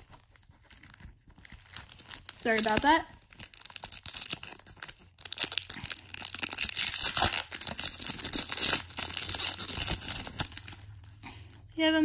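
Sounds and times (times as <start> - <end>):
foil wrapper tearing and crinkling: 0.0 - 11.2.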